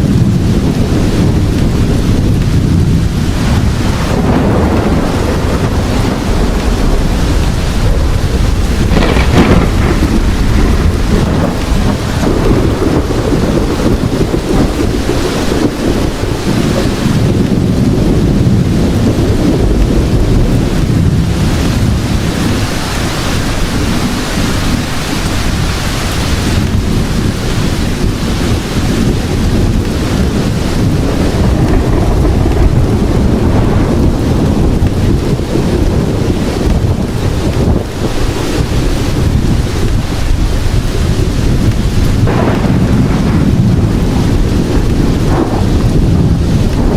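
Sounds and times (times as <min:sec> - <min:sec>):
heavy rain: 0:00.0 - 0:46.9
thunder rumbling: 0:00.0 - 0:46.9.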